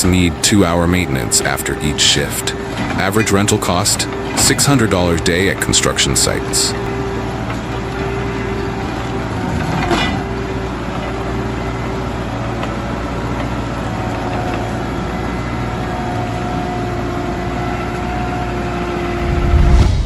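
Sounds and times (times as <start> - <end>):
stump grinder running: 0.0 - 19.8.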